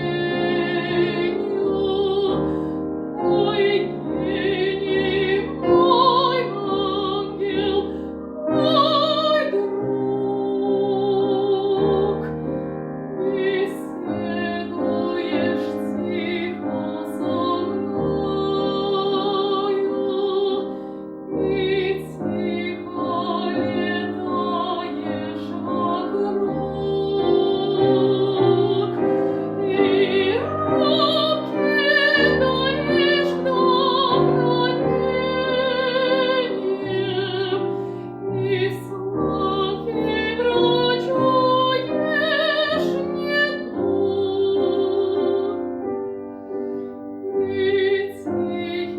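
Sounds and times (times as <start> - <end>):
operatic singing: 0.0 - 12.6, 13.2 - 20.8, 21.4 - 45.6
piano: 0.0 - 48.9.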